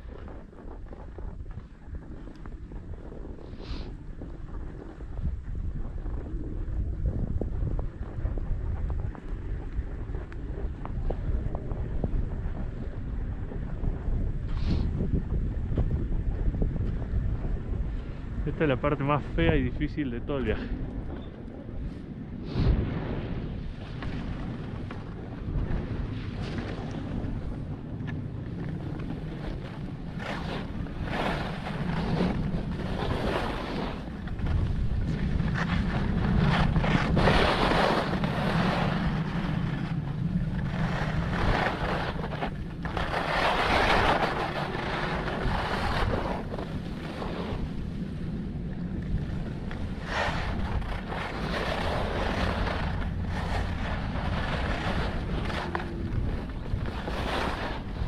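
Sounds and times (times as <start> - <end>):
skis scraping on snow: 0.0 - 6.6, 7.4 - 58.0
wind buffeting microphone: 0.0 - 58.0.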